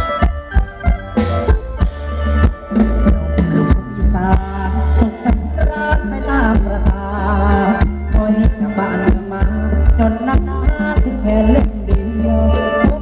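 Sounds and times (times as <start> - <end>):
steady drum beat: 0.0 - 12.2
deep bass: 0.0 - 13.0
folk dance band music: 0.0 - 13.0
sustained melody notes: 0.0 - 13.0.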